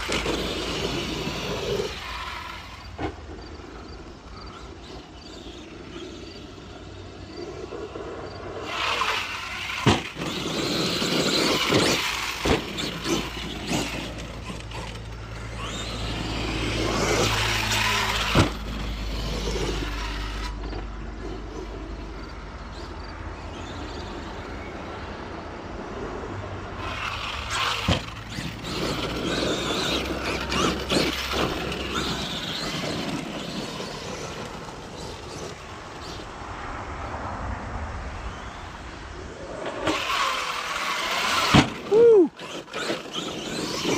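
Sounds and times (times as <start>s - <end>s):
rc truck motor and tyres: 0.0s - 43.9s.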